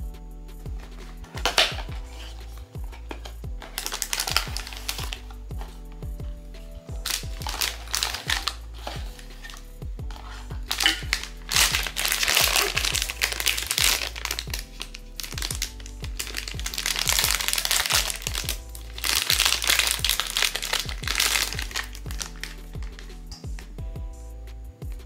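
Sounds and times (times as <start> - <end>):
background music: 0.0 - 25.0
packaging crinkling: 0.8 - 5.8, 7.0 - 23.3.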